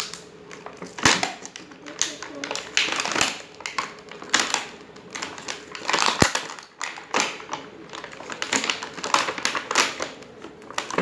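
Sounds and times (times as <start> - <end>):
toy packaging crackling: 0.0 - 11.0.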